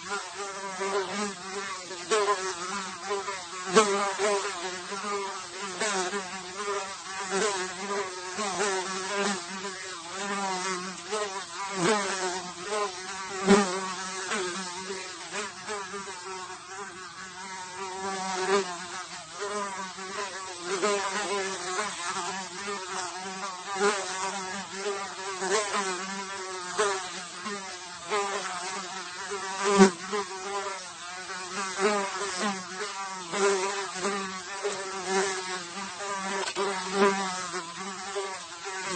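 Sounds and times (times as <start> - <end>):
fly buzzing: 0.0 - 38.9.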